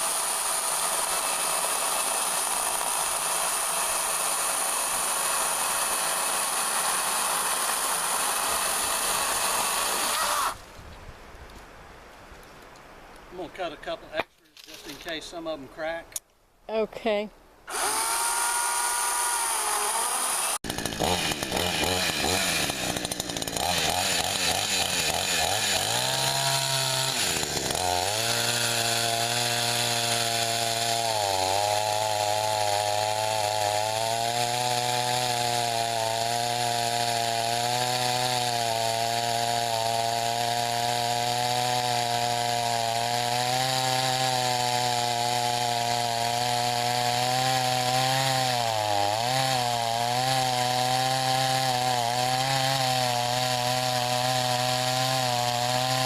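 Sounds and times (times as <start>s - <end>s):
chainsaw cutting through log: 0.0s - 10.6s, 17.7s - 56.0s.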